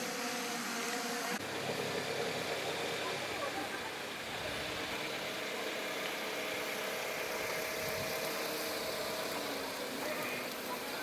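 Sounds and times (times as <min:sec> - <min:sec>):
beetles buzzing in flight: 0:00.0 - 0:11.0.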